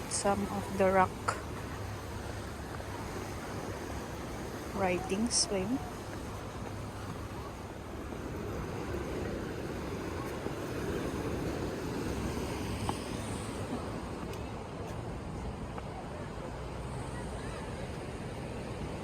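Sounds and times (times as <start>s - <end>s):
surf washing onto beach: 0.0s - 19.0s.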